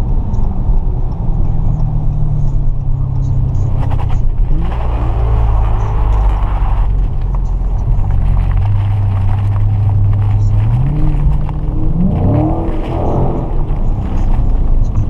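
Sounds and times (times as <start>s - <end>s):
car engine cruising: 0.0s - 15.0s.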